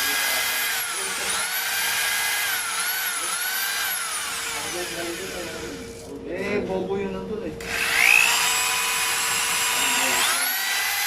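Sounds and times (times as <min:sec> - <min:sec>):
electric drill motor whining: 0:00.0 - 0:06.1, 0:07.6 - 0:11.0.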